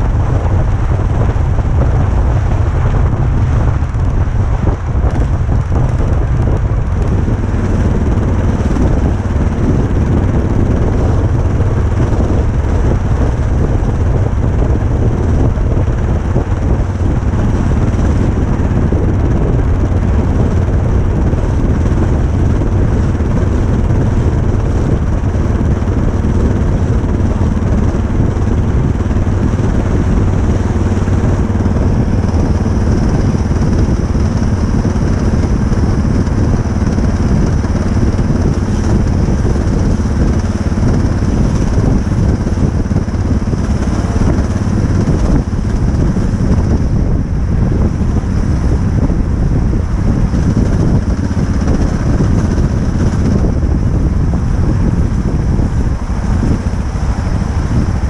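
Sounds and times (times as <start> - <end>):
motorcycle engine running: 0.0 - 58.0
wind rumbling on microphone: 0.0 - 58.0.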